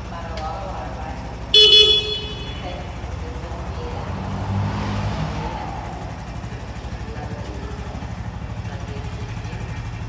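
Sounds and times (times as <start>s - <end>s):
motorcycle engine idling: 0.0s - 4.5s, 5.3s - 10.0s.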